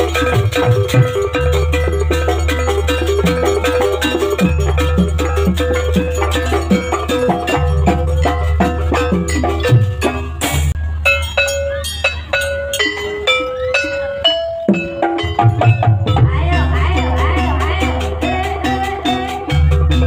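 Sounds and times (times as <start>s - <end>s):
bell-like percussion: 0.0s - 20.0s.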